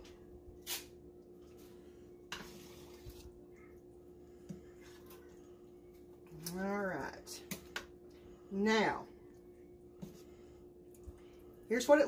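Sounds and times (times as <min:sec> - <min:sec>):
spoon stirring in a pot: 0:00.0 - 0:11.7
low hum: 0:00.0 - 0:11.8.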